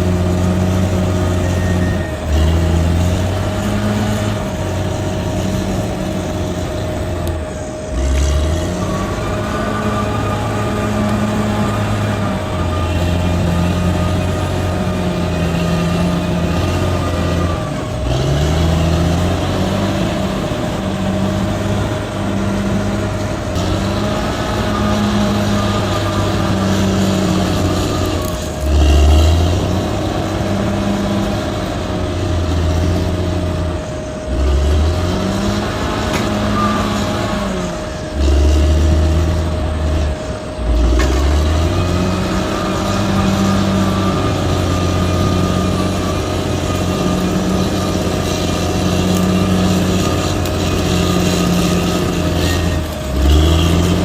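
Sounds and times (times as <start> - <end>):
diesel engine working under load: 0.0 - 54.0
steady whine: 0.0 - 54.0.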